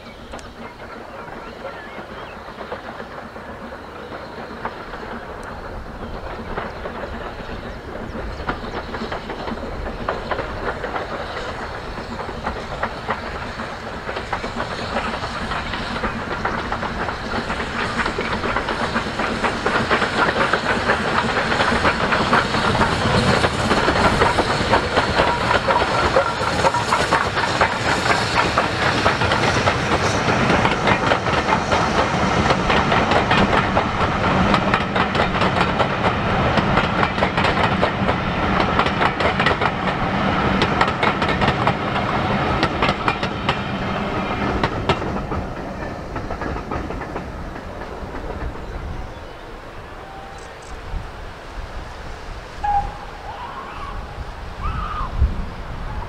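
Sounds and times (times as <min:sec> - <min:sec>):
steam hissing: 0:00.0 - 0:56.0
steam locomotive chuffing: 0:00.0 - 0:56.0
train wheels clacking over rail joints: 0:00.1 - 0:53.2.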